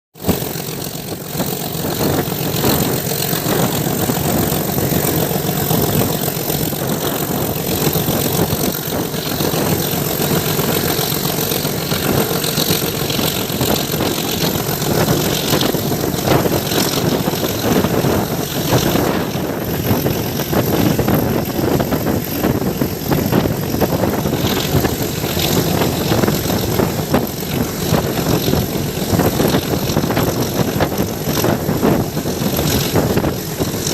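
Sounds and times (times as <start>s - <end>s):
train rumbling and rattling: 0.2s - 33.9s.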